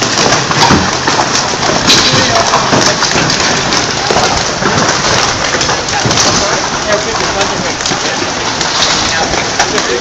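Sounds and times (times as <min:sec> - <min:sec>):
hail clattering on concrete: 0:00.0 - 0:10.0
rain hissing: 0:00.0 - 0:10.0
sharp crack: 0:00.0 - 0:10.0.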